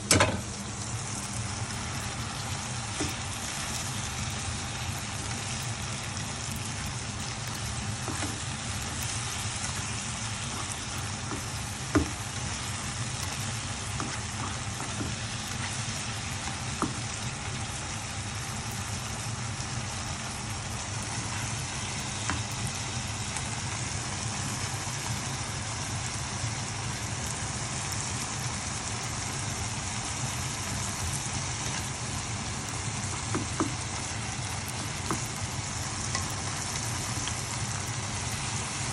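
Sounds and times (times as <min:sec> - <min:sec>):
vegetables sizzling in a frying pan: 0:00.0 - 0:38.9.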